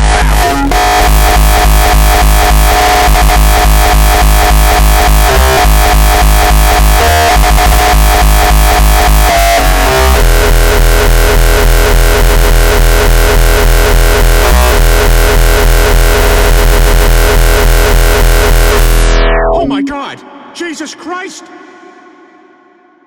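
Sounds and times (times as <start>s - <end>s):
hardcore electronic music: 0.0s - 22.6s.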